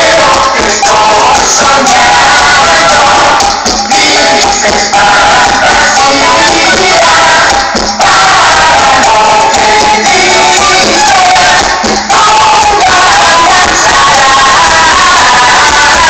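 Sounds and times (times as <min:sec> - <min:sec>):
loud music with singing over speakers: 0:00.0 - 0:16.0.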